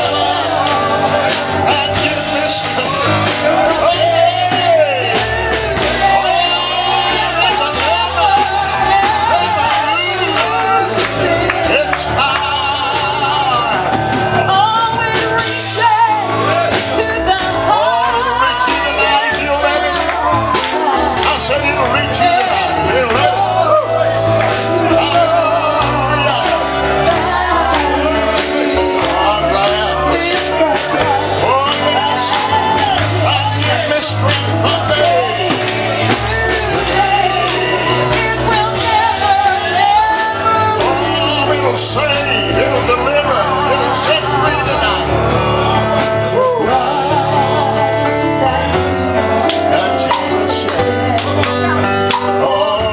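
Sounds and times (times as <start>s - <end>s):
band accompaniment: 0.0s - 52.9s
gospel duet singing with vibrato: 0.0s - 52.9s
steady drum beat: 0.0s - 52.9s.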